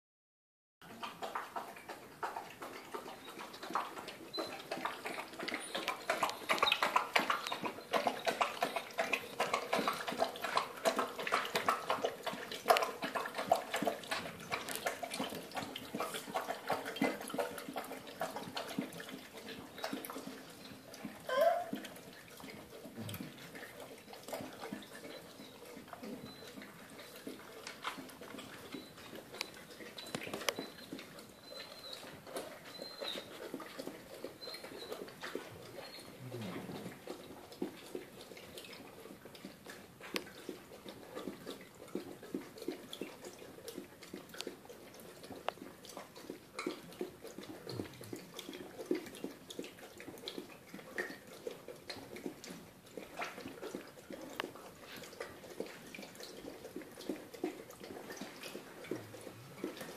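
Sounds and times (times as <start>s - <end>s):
dogs lapping water: 0.8s - 59.9s.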